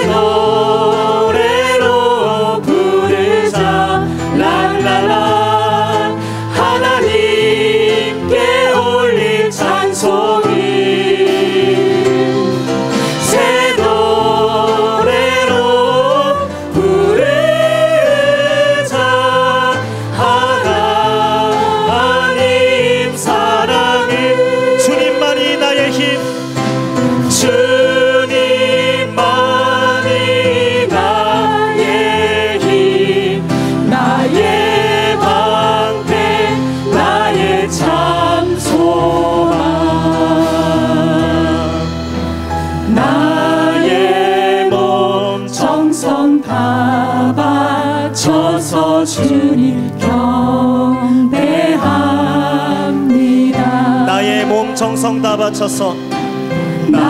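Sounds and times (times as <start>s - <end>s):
band accompaniment: 0.0s - 49.0s, 51.4s - 57.0s
group singing into microphones: 0.0s - 57.0s.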